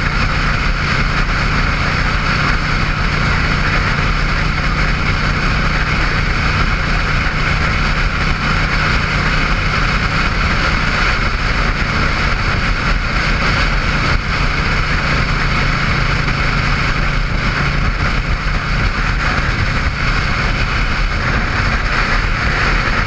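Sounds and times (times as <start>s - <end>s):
motorcycle engine drone: 0.0s - 23.0s
wind on microphone: 0.0s - 23.0s.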